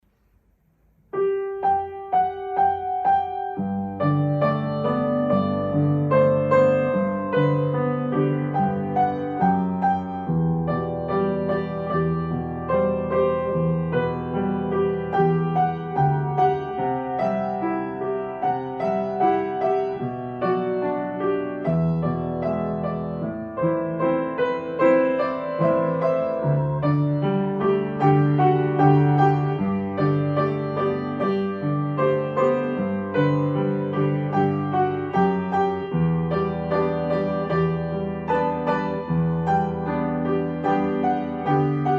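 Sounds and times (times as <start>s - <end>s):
gentle piano-like keyboard music: 1.2s - 41.9s.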